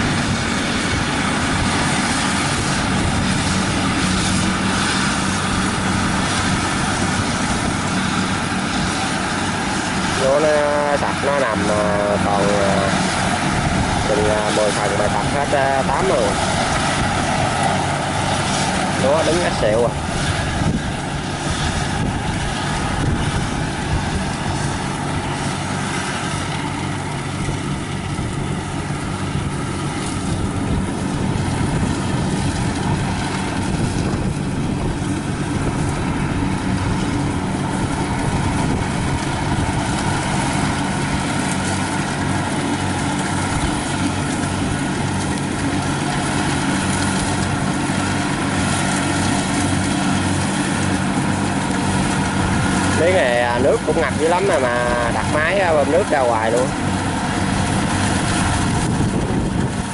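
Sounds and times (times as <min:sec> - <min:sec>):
combine harvester engine drone: 0:00.0 - 0:59.9.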